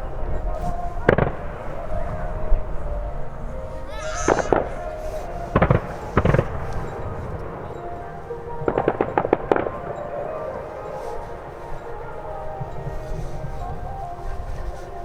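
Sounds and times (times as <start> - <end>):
faint background music: 0.0 - 15.0
fireworks bangs and crackling: 0.2 - 2.7, 4.3 - 14.0.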